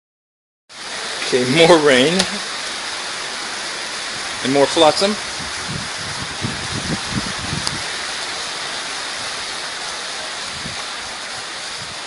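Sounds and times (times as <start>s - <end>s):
rain falling on floodwater: 0.7s - 12.0s.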